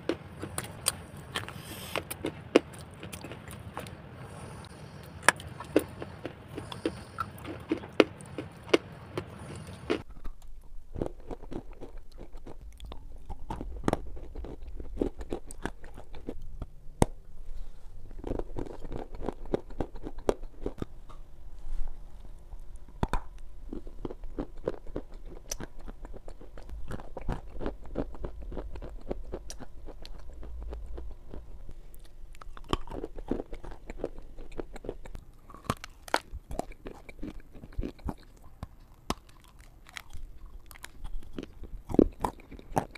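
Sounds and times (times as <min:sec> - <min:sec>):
biting and chewing crunches: 0:00.0 - 0:04.0, 0:04.6 - 0:21.3, 0:22.2 - 0:42.9.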